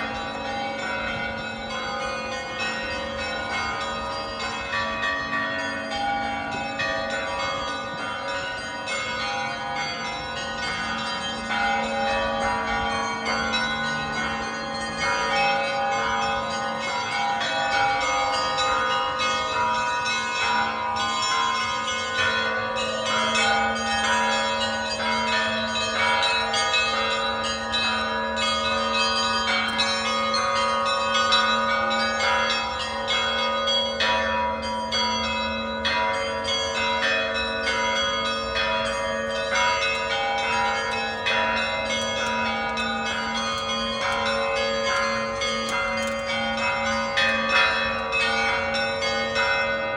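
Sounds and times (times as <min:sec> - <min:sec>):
church bells pealing: 0:00.0 - 0:49.9.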